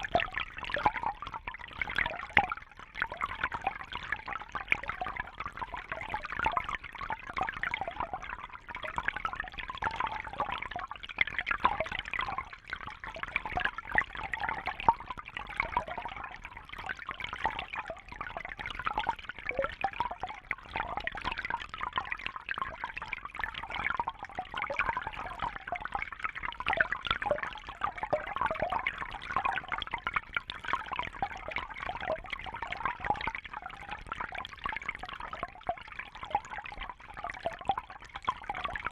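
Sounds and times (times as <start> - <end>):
water trickling and bubbling: 0.0 - 38.9.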